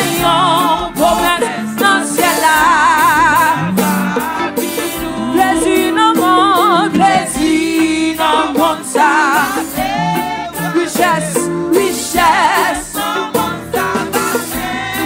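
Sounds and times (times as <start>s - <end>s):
woman singing into a microphone: 0.0s - 15.0s.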